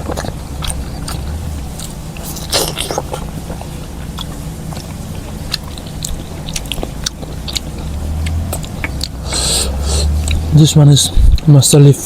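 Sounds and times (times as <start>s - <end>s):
chewing food: 0.0s - 11.6s.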